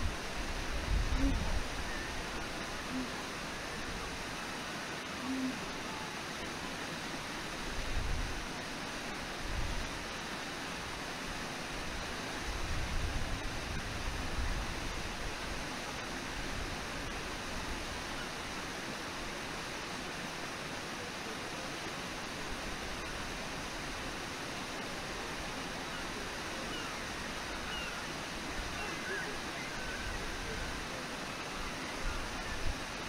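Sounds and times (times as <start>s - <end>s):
river rushing over shallows: 0.0s - 33.0s.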